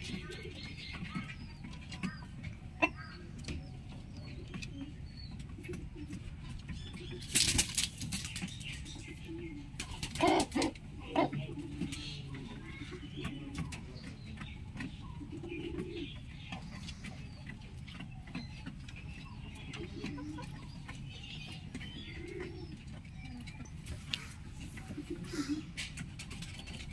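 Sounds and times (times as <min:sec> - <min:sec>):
bird cooing: 0:00.0 - 0:07.2, 0:09.0 - 0:26.9
small birds chirping: 0:00.0 - 0:26.9.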